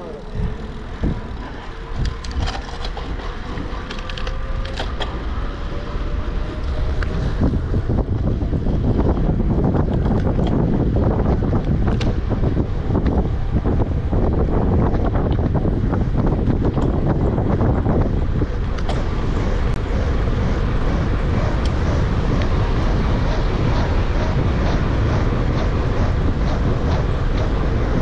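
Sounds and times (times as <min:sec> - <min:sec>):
bike clicks and rattles: 0:00.0 - 0:28.0
wind rushing over microphone: 0:00.0 - 0:28.0.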